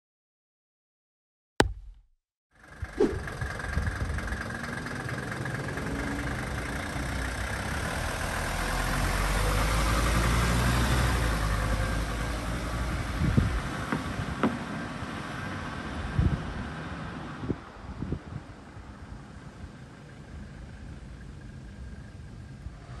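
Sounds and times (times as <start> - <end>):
diesel car engine pulling away: 2.6 - 23.0.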